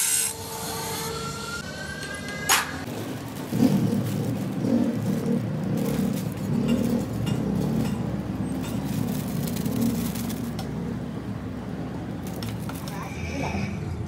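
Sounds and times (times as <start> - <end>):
low engine rumble: 1.4 - 14.0.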